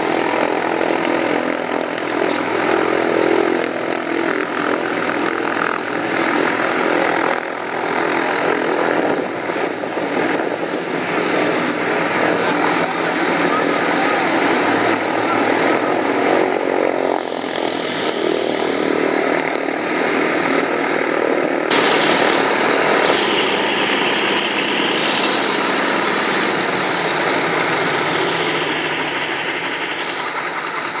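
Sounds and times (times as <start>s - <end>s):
propeller aircraft engines running: 0.0s - 31.0s.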